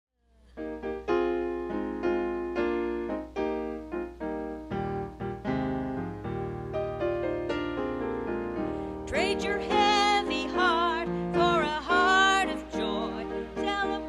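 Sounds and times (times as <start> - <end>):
keyboard chords: 0.5 - 14.0.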